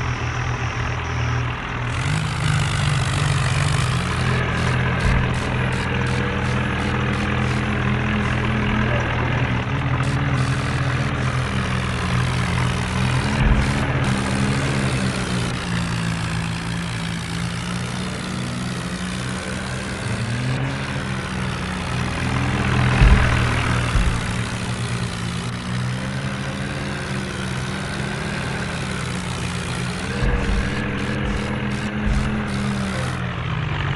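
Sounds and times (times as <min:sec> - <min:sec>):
tractor diesel engine running: 0:00.0 - 0:33.9
thumps: 0:02.2 - 0:33.3.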